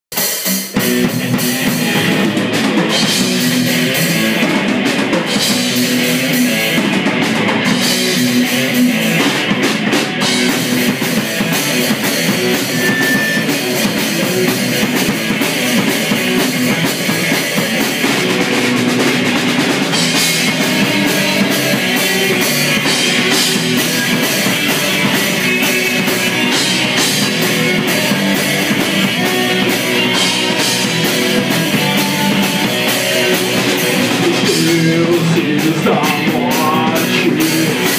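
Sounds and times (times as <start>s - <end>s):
drum kit: 0.1s - 37.9s
electric bass: 0.7s - 37.9s
electric guitars: 0.7s - 37.9s.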